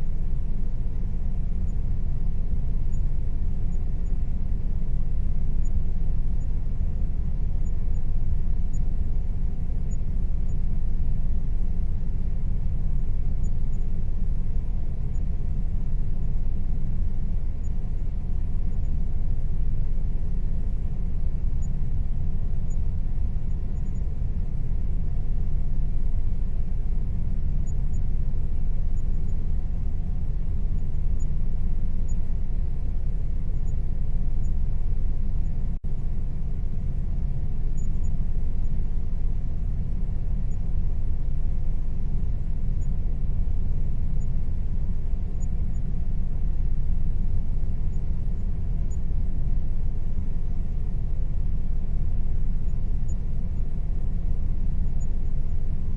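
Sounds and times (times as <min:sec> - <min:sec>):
air conditioner rumble: 0:00.0 - 0:55.9
faint even hum: 0:00.0 - 0:55.9.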